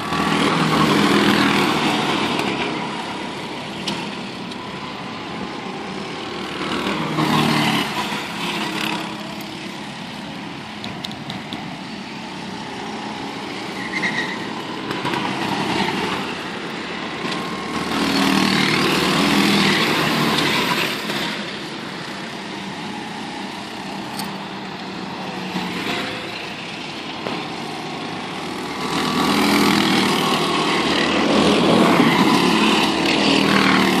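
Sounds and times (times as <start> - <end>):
go-kart engines passing by: 0.0 - 34.0.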